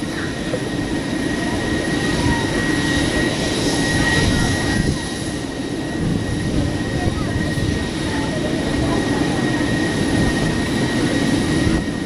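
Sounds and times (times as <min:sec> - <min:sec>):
turboprop engines running: 0:00.0 - 0:12.0.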